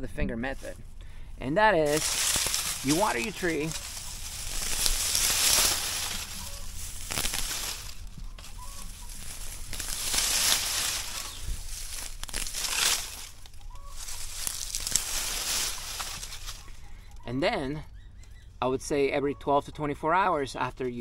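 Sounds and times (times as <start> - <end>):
dry grass rustling and crackling: 0.0 - 18.6
faint bird calls: 2.0 - 19.8.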